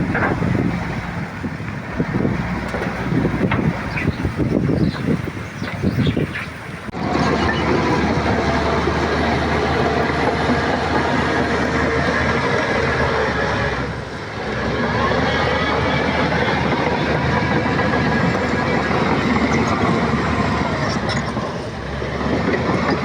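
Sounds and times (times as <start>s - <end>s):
bulldozer diesel engine: 0.0s - 23.0s
steel tracks clattering: 0.0s - 23.0s.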